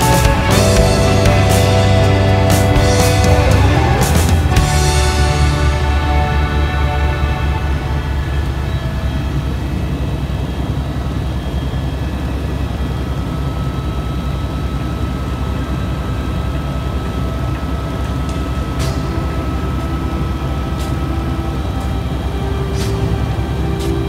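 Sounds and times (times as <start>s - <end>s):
helicopter rotor and engine drone: 0.0s - 24.0s
thin steady whine: 0.0s - 24.0s.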